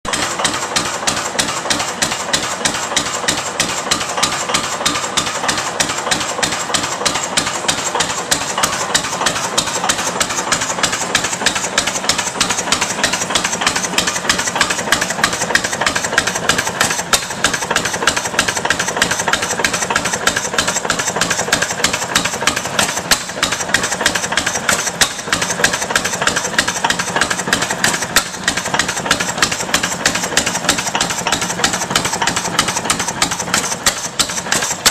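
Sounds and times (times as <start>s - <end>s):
gas engine mechanical clatter: 0.1s - 34.9s.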